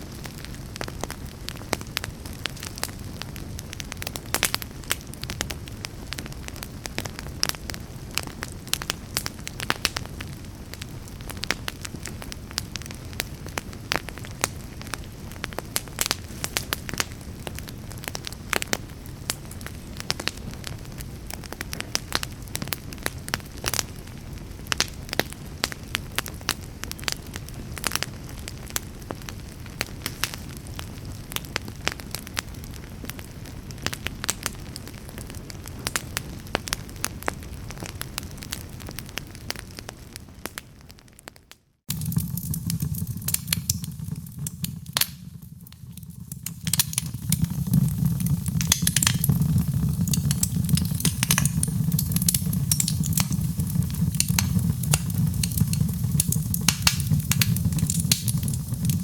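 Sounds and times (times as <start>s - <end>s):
wood fire rumbling: 0.1s - 36.0s, 41.9s - 59.0s
fire pops and snaps: 0.1s - 40.6s, 41.9s - 59.0s.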